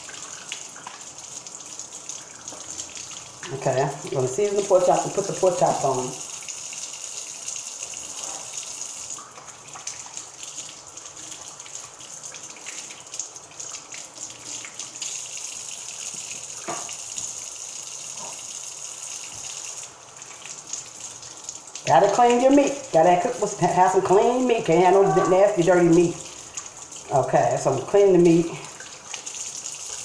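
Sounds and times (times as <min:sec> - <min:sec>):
kitchen tap running: 0:00.0 - 0:30.0.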